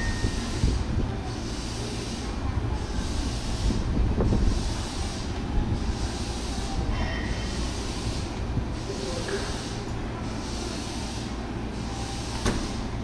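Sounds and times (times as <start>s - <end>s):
electric train rumbling: 0.0s - 10.5s.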